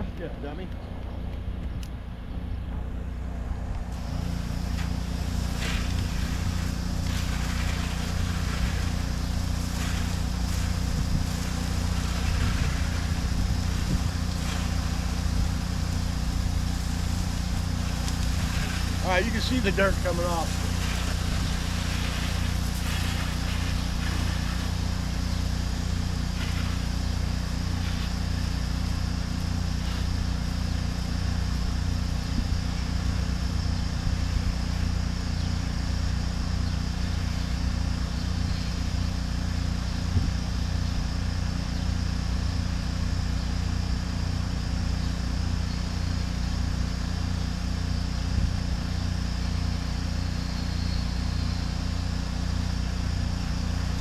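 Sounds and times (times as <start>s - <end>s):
pressure washer engine humming: 0.0s - 54.0s
high-pressure water spray hiss: 3.8s - 54.0s.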